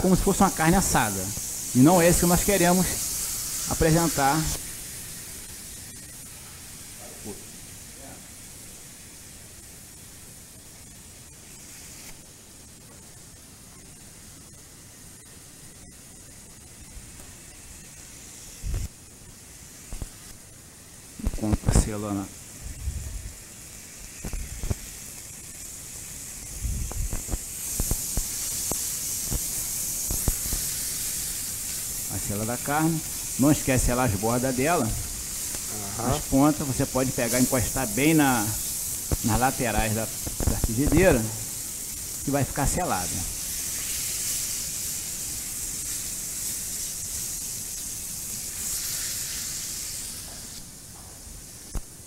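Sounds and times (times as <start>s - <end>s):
beef sizzling in a frying pan: 0.0s - 52.0s.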